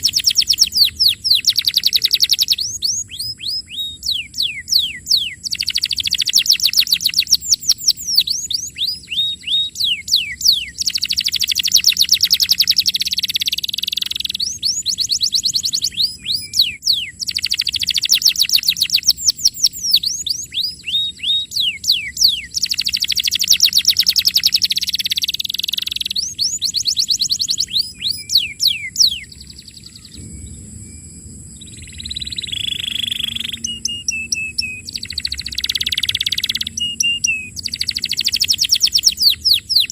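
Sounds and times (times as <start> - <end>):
canary singing: 0.0 - 30.3, 31.6 - 39.9.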